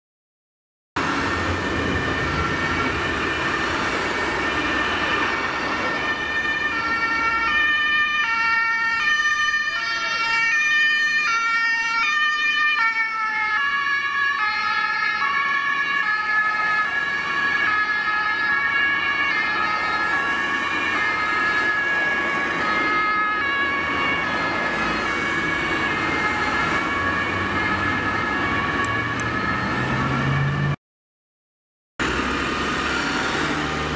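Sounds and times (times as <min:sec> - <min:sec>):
road traffic noise: 0:01.0 - 0:30.8, 0:32.0 - 0:33.9
two-tone emergency sirens: 0:01.0 - 0:30.8, 0:32.0 - 0:33.9.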